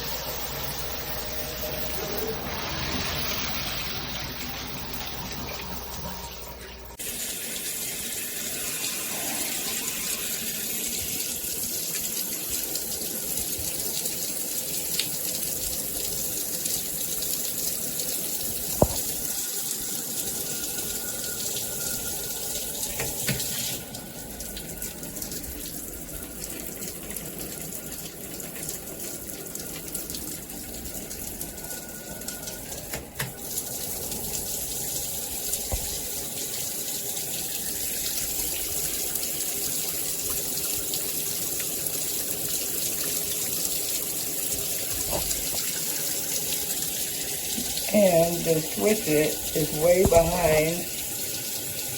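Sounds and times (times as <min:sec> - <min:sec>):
shower water spraying: 0:06.9 - 0:51.9.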